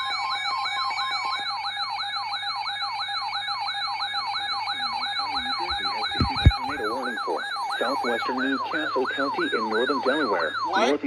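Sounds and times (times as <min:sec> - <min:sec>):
electronic siren alert tone: 0:00.0 - 0:11.0.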